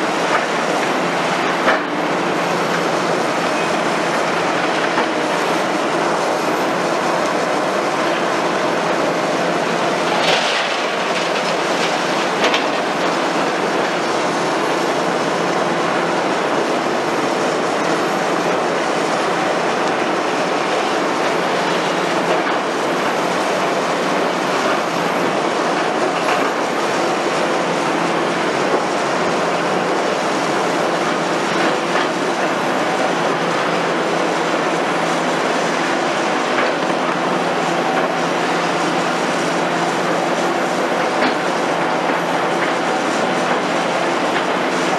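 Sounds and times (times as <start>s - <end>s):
excavator diesel engine under load: 0.0s - 44.9s.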